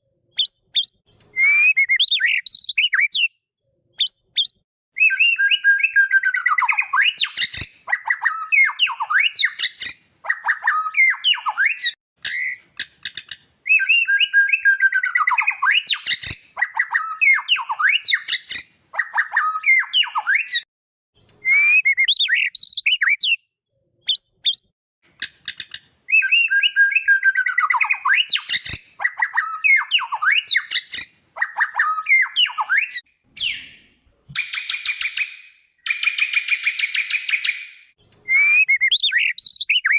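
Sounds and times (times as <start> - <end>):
bird whistling song: 0.4 - 3.4, 4.0 - 20.7, 21.4 - 39.9.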